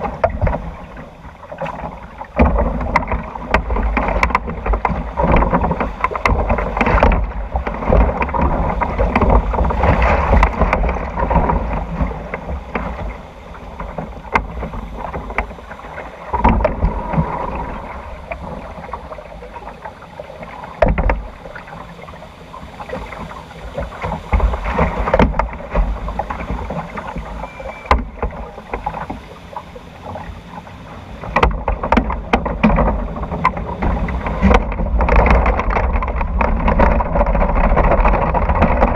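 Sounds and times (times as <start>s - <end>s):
water sloshing and rushing: 0.0s - 38.9s.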